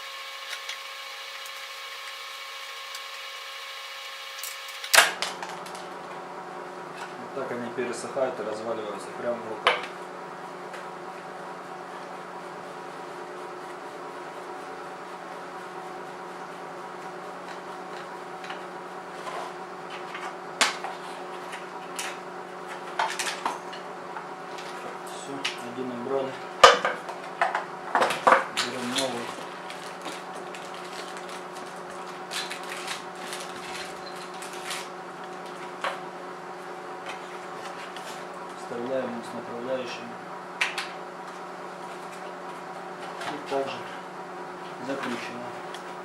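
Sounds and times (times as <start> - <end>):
steady hum: 0.0 - 46.0
steady multi-tone whine: 0.0 - 46.0.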